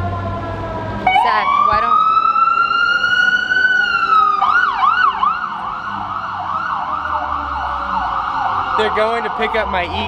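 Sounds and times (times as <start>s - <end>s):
ambulance siren wailing and yelping: 0.0s - 10.0s.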